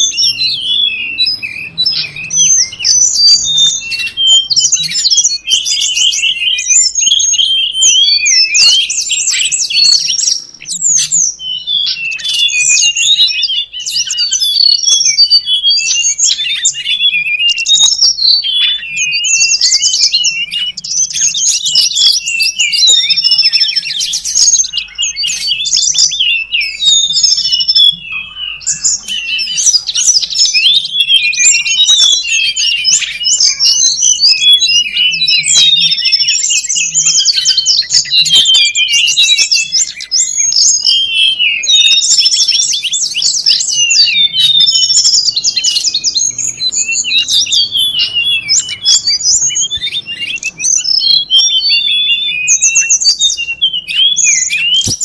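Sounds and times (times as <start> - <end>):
birds twittering busily: 0.0 - 55.0.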